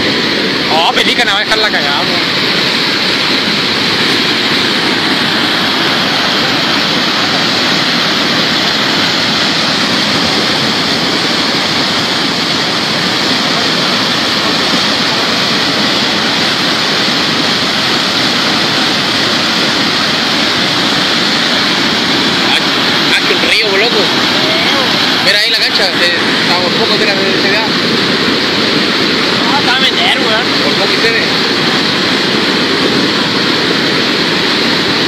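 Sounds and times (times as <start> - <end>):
flood torrent rushing: 0.0 - 35.0.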